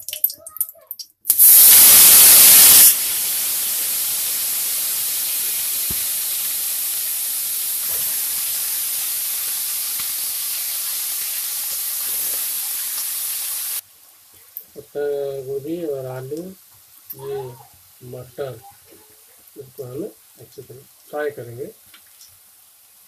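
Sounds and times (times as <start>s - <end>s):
cabbage sizzling in hot oil: 1.3s - 14.7s, 15.5s - 23.0s.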